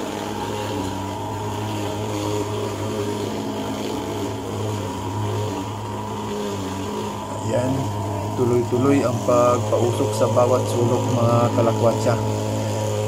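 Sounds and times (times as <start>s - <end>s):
fogging machine droning: 0.0s - 13.0s.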